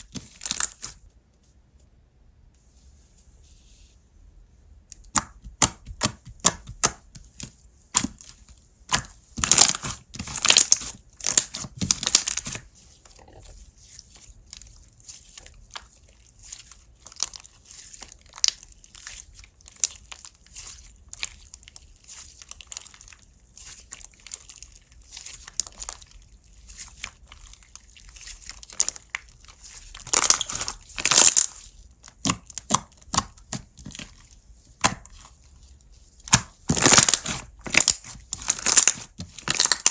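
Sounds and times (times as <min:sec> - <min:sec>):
slime squishing by hand: 0:00.0 - 0:01.1, 0:04.9 - 0:39.9.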